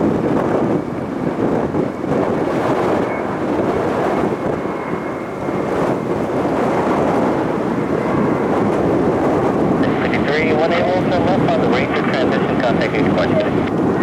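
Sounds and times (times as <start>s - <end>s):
jet engine rumble with whine: 0.0s - 14.0s.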